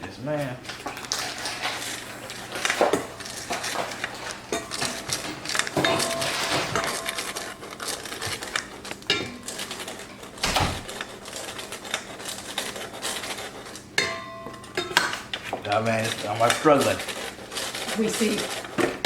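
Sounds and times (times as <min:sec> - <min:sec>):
flour sifter scraping and clicking: 0:00.0 - 0:19.0
sifter squeaks: 0:00.0 - 0:19.0.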